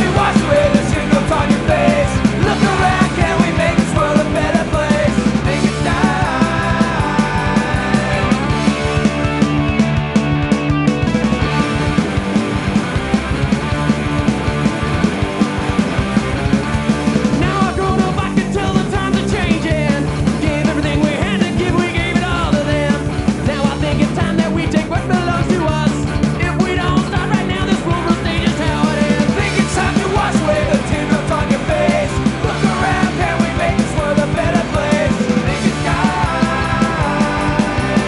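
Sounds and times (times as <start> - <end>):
loud punk rock music: 0.0 - 38.0.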